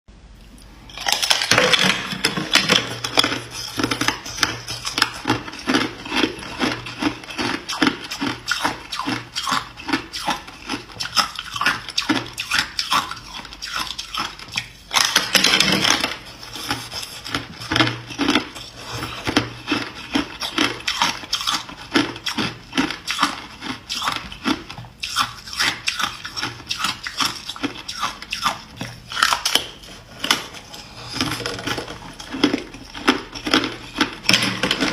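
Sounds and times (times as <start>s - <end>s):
ice crunching being chewed: 0.4s - 34.9s.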